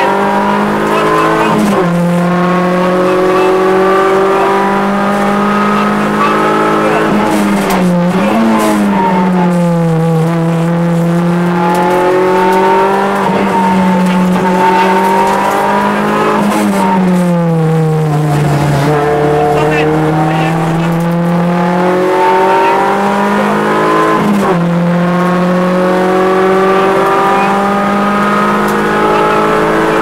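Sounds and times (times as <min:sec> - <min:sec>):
car engine at high revs: 0:00.0 - 0:30.0.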